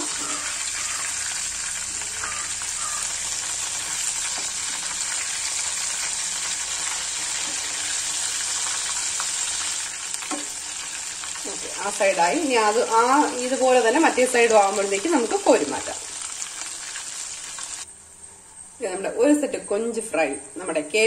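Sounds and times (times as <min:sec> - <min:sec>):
prawns deep-frying in oil: 0:00.0 - 0:17.9.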